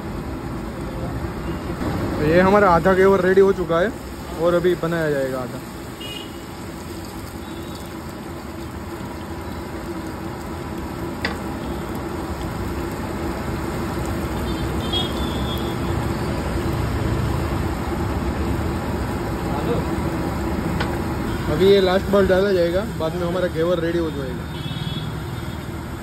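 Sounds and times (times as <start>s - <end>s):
batter sizzling in hot oil: 0.0s - 26.0s
street traffic: 0.0s - 26.0s.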